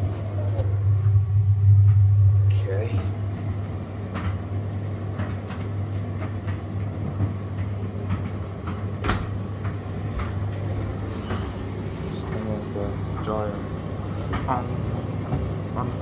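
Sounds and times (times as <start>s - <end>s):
tumble dryer motor hum: 0.0s - 16.0s.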